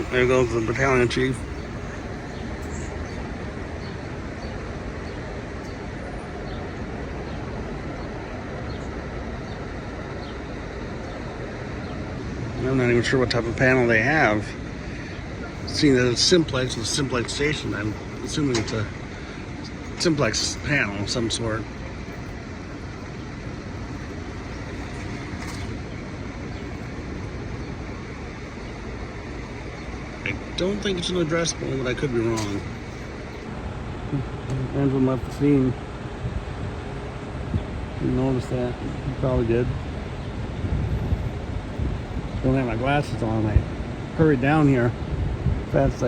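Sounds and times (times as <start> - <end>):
fire truck diesel engine idling: 0.0 - 46.0
street traffic rumble: 0.0 - 46.0.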